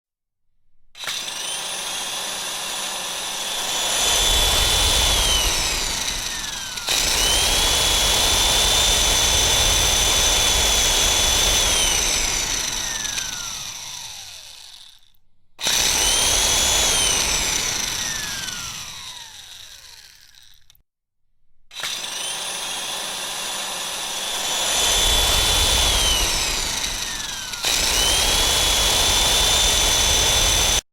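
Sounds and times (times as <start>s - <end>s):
paddle mixer motor whining: 1.0s - 20.8s, 21.7s - 30.8s.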